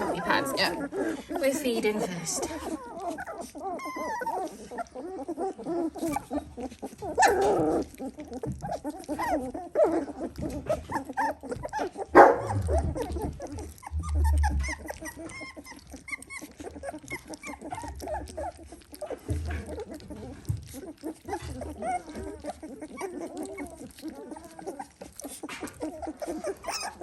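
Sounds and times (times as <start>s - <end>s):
puppies whining and squeaking: 0.0s - 27.0s
puppy yelp: 0.0s - 27.0s.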